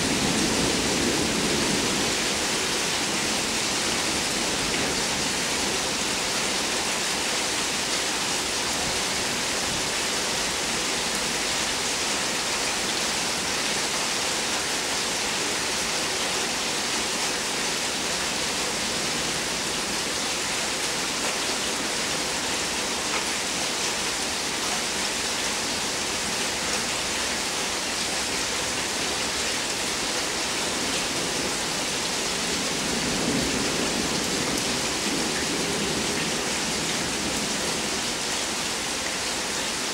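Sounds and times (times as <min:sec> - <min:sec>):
steady rain downpour: 0:00.0 - 0:39.9.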